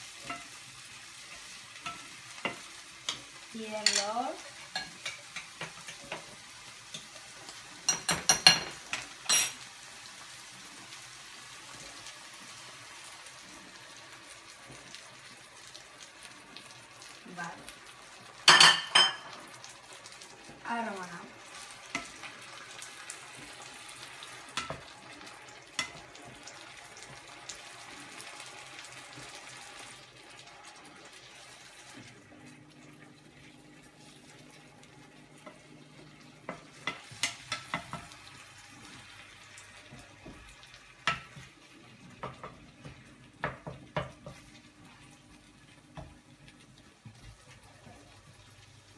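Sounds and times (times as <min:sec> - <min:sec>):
food sizzling in oil: 0:00.0 - 0:48.9.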